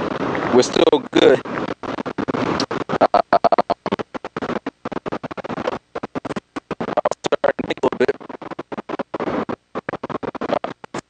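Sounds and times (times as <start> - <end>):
clothing rubbing on microphone: 0.0 - 11.0.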